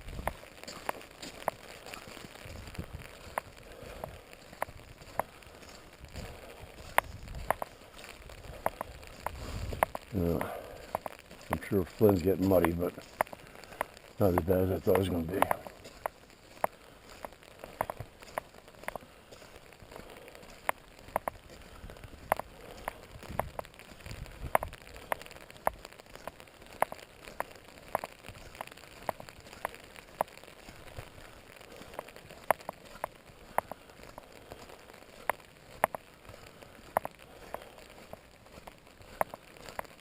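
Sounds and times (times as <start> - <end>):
raindrops tapping on umbrella: 0.0 - 40.0
steady rain hiss: 0.0 - 40.0.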